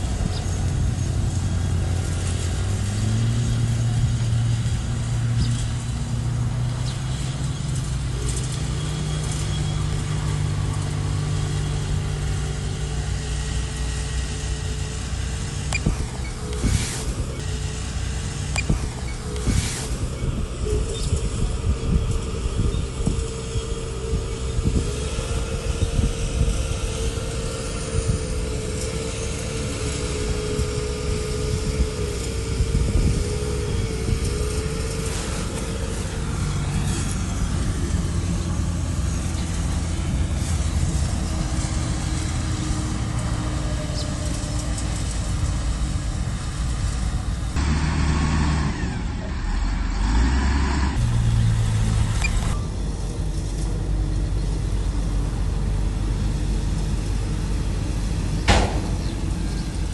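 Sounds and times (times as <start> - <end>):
wavering whine: 0.0 - 50.1
diesel earthmoving machinery: 0.0 - 59.9.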